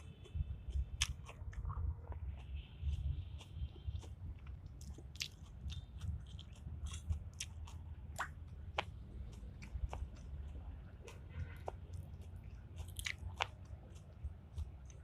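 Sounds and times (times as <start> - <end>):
person chewing food: 0.0 - 15.0
wet mouth clicks and crunches: 0.0 - 15.0.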